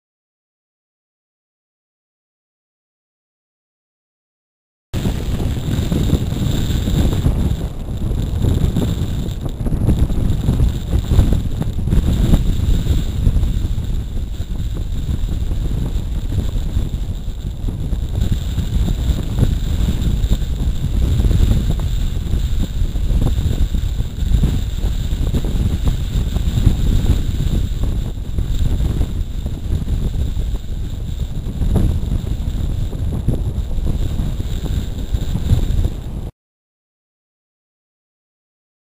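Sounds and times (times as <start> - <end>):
strong gusty wind on microphone: 5.0 - 36.3.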